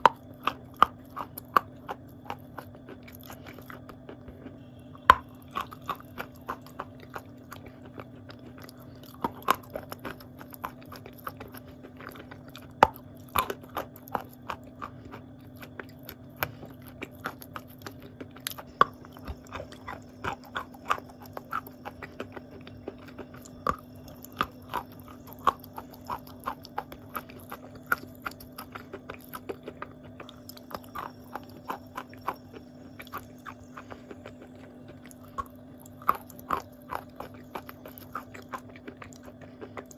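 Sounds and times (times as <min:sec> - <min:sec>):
chewing and biting clay: 0:00.0 - 0:39.9
steady low hum: 0:00.0 - 0:39.9.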